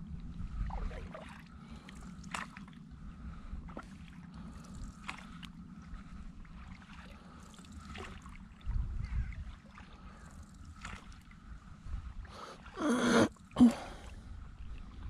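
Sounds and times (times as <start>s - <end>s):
low steady rumble: 0.0s - 15.0s
paddle strokes splashing water: 0.6s - 12.8s.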